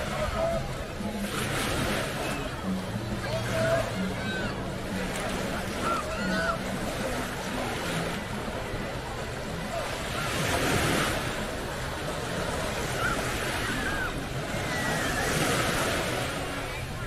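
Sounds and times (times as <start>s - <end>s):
small waves washing on shore: 0.0s - 17.0s.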